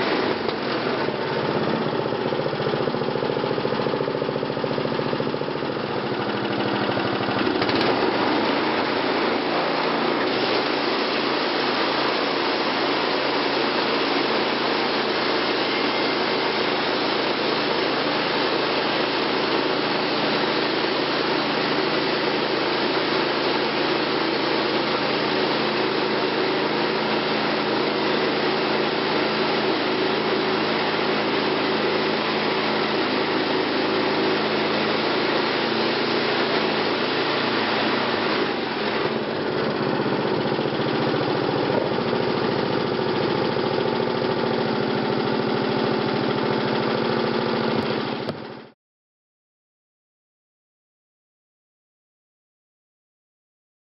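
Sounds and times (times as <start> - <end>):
band sawmill running: 0.0 - 48.7.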